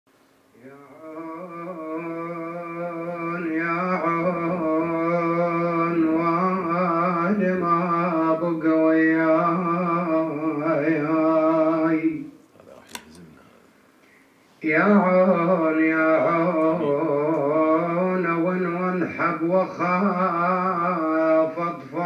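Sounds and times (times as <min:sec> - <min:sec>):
man chanting unaccompanied: 0:00.6 - 0:13.6, 0:14.6 - 0:22.0.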